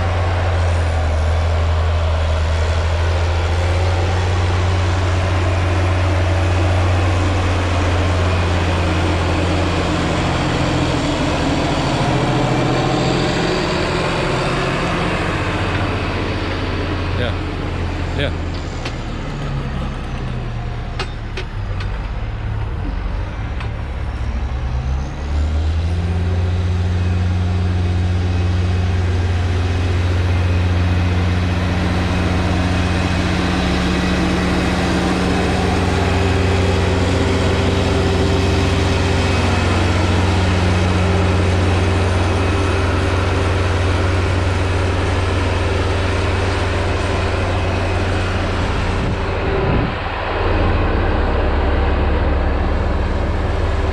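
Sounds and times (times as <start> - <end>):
farm vehicle engine running: 0.0 - 53.9.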